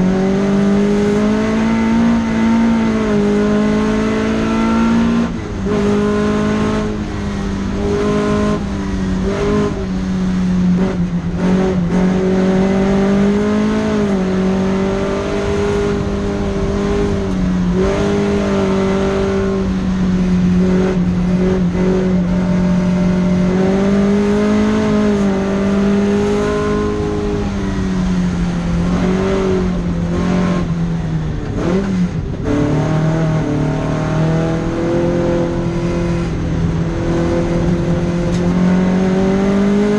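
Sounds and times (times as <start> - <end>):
car engine revving high: 0.0 - 39.9.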